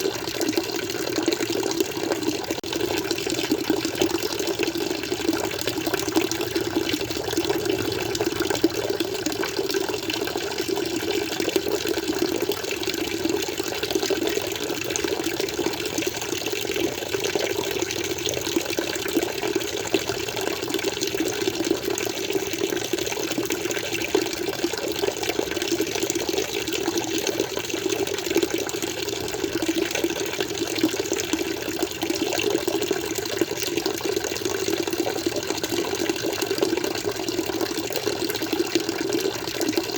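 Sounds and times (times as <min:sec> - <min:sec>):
water flowing in aquarium: 0:00.0 - 0:39.9.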